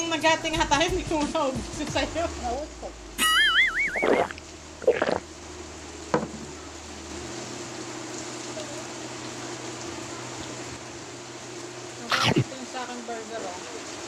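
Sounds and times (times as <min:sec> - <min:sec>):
background hiss: 0:00.0 - 0:14.0
faint hum: 0:00.0 - 0:14.0.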